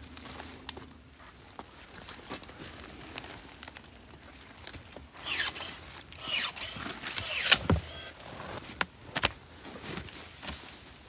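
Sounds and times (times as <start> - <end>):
footsteps in dry leaves: 0.0 - 11.0.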